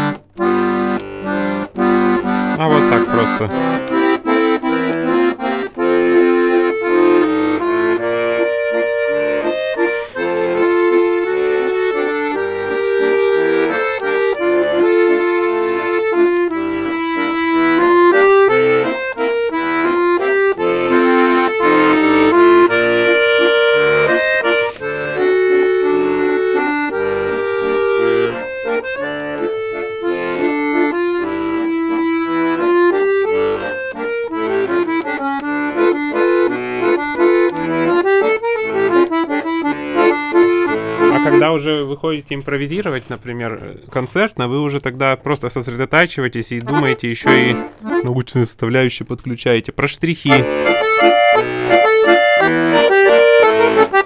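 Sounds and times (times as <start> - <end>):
button accordion playing: 0.0 - 43.1, 44.2 - 48.5, 50.0 - 54.0.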